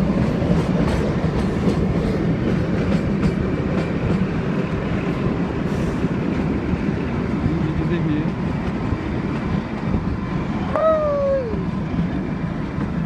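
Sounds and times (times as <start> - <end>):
rail joint clicks: 0.0 - 10.6, 11.5 - 13.0
train wheels rumbling: 0.0 - 13.0.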